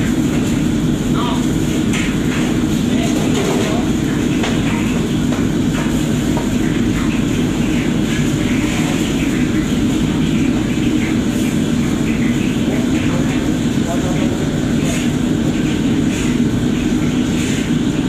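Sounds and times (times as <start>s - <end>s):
extraction hood running: 0.0s - 18.0s
gas burners roaring: 0.0s - 18.0s.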